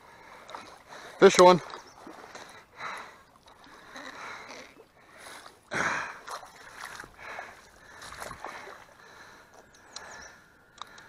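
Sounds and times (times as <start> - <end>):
fish splashing in shallow water: 0.0 - 11.0.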